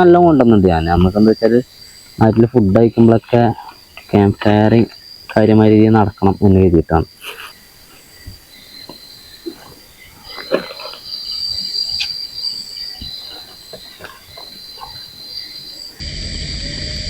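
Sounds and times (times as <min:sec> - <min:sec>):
campfire crackling: 0:00.0 - 0:16.4
night insects trilling: 0:00.0 - 0:17.0.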